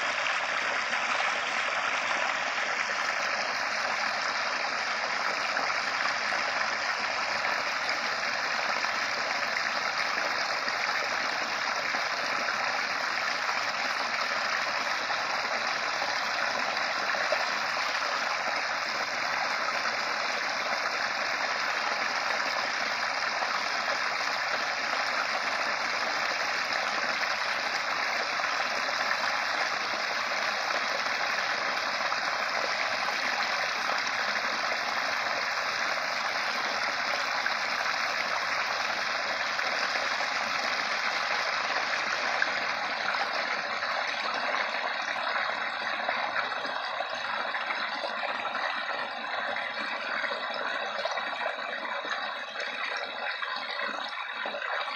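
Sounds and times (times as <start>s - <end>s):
small waterfall splashing: 0.0s - 54.9s.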